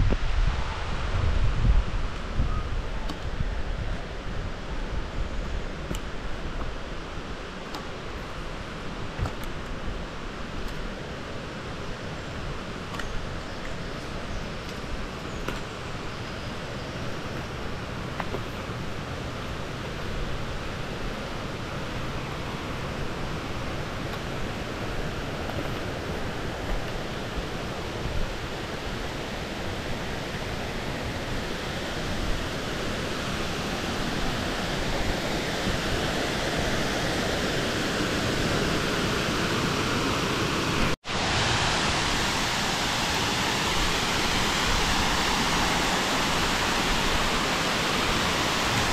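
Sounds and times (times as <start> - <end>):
steady rushing noise: 0.0 - 48.9.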